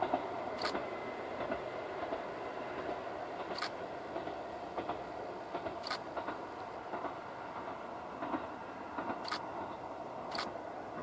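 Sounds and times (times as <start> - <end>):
distant train running: 0.0 - 11.0
short clacks of train: 0.0 - 11.0.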